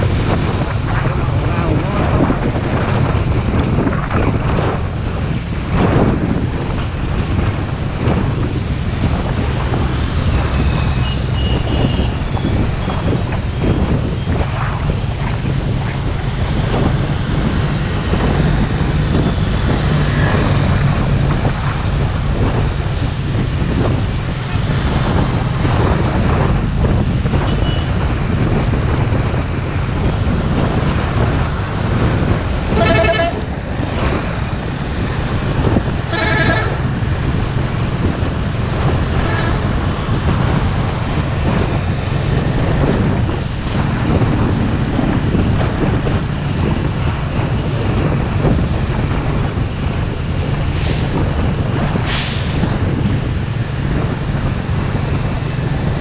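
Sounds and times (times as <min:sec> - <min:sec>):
vehicle rumble on road: 0:00.0 - 0:56.0
wind buffeting microphone: 0:00.0 - 0:56.0.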